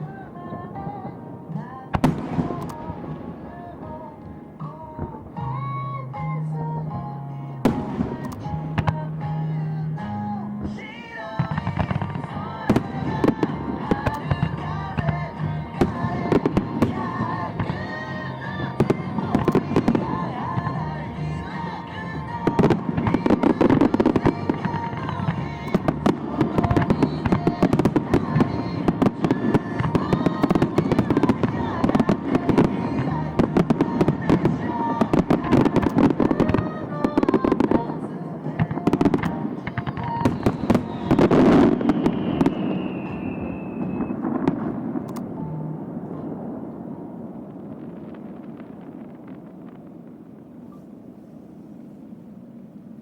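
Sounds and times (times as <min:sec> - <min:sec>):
fireworks bangs and crackling: 0:00.0 - 0:06.8, 0:07.6 - 0:53.0
music: 0:00.0 - 0:49.8
lingering rumble: 0:10.6 - 0:53.0.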